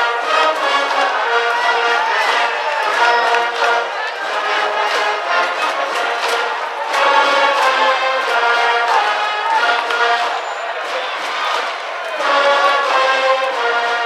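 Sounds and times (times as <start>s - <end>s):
brass band playing: 0.0s - 14.0s
percussion beat: 0.0s - 14.0s.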